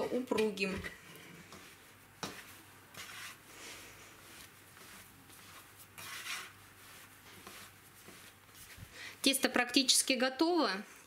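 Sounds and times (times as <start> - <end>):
dough kneading by hand: 0.0 - 10.1.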